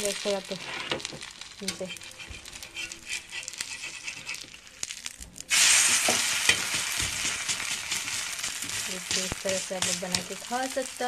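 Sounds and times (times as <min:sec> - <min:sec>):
batter sizzling in hot oil: 0:00.0 - 0:11.0
oil crackling in a pan: 0:00.0 - 0:11.0.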